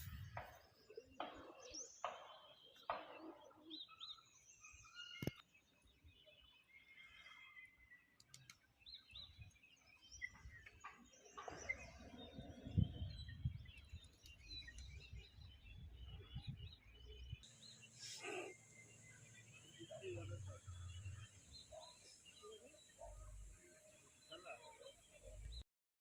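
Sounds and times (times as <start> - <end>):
birds chirping: 0.0 - 25.6.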